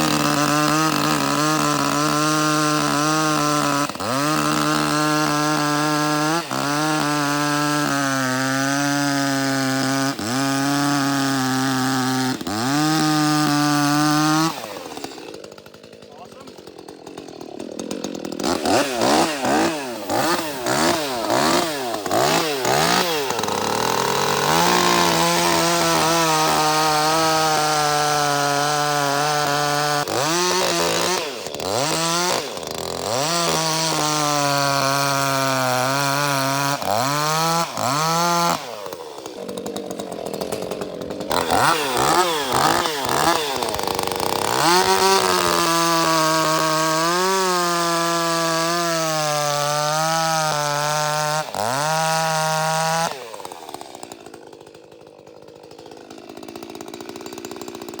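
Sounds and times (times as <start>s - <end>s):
chainsaw revving and cutting: 0.0s - 58.0s.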